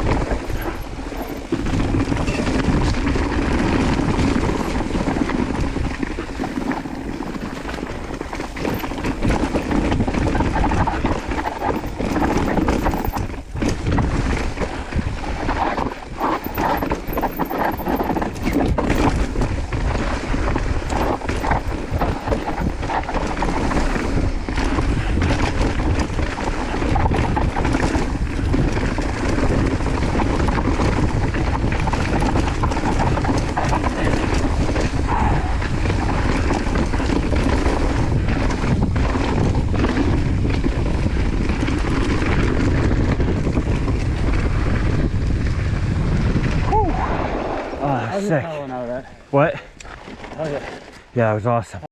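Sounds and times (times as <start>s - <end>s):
bike rattling over bumps: 0.0s - 47.9s, 48.8s - 51.7s
bike tyres on dirt and rocks: 0.0s - 51.8s
wind rumble on microphone: 0.0s - 51.9s.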